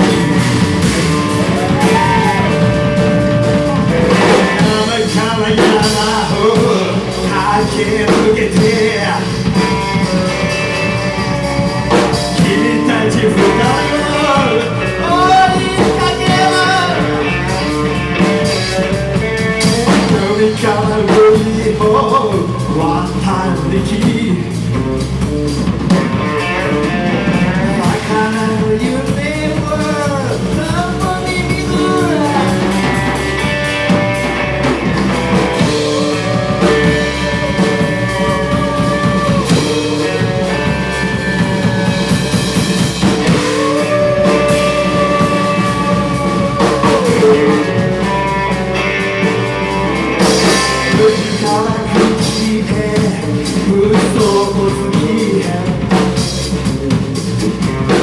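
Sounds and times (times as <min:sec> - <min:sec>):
person singing: 0:00.0 - 0:24.8, 0:26.1 - 0:58.0
rock band playing: 0:00.0 - 0:58.0.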